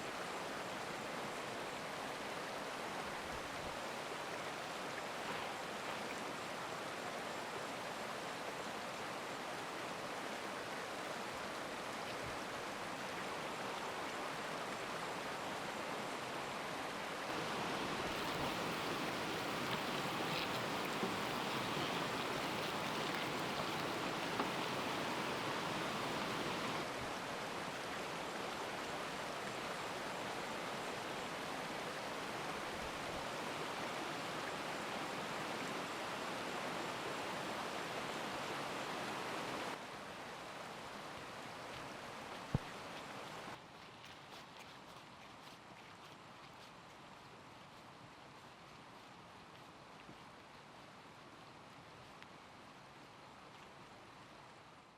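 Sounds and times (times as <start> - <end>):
stream flowing: 0.0 - 46.2.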